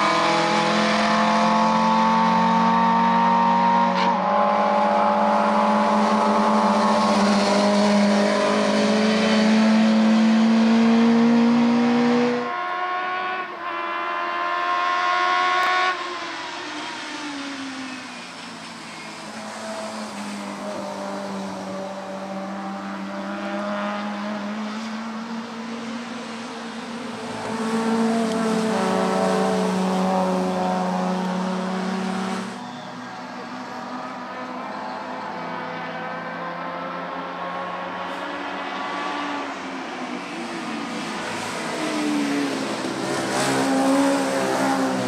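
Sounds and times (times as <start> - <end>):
distant car engines: 0.0 - 45.0
racing car engines at high revs: 0.0 - 45.0.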